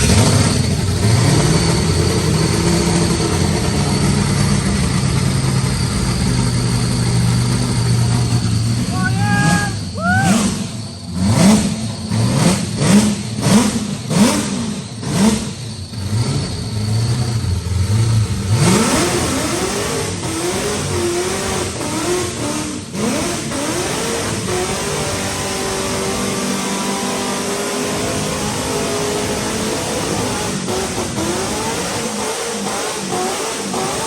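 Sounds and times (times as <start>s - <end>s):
engine revving: 0.0s - 34.0s.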